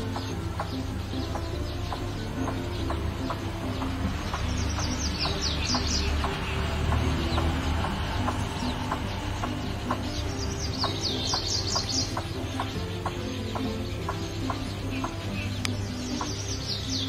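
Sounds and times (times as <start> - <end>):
background music with steady beat: 0.0 - 17.0
high bird chirps: 0.0 - 17.0.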